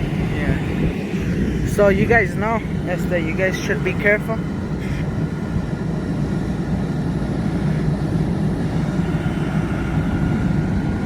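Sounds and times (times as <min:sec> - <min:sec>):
faint steady hum: 0:00.0 - 0:11.0
vehicle engine rumbling: 0:00.0 - 0:11.0.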